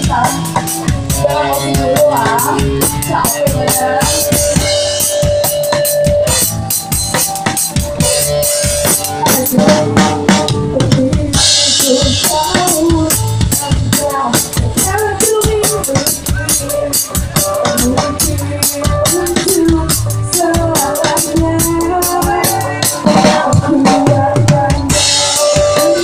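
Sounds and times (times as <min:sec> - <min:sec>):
drum kit playing: 0:00.0 - 0:26.0
electric guitar chords: 0:00.0 - 0:26.0.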